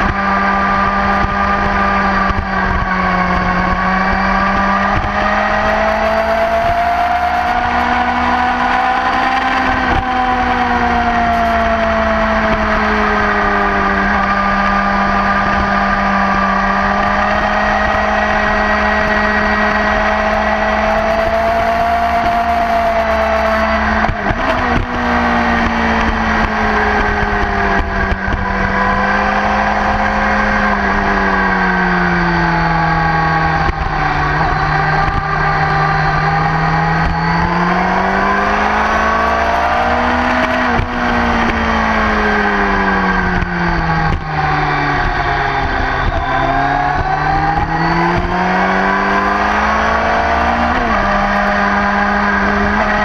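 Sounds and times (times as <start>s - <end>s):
motorcycle engine running hard: 0.0s - 53.0s.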